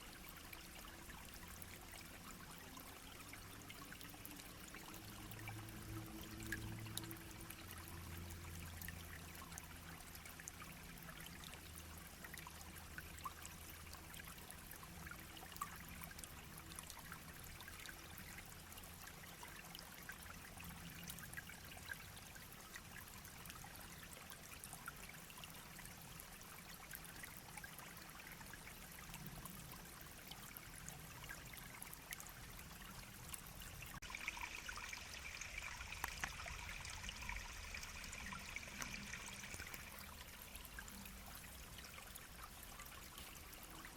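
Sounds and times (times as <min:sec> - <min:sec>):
stream babbling over stones: 0:00.0 - 0:43.9.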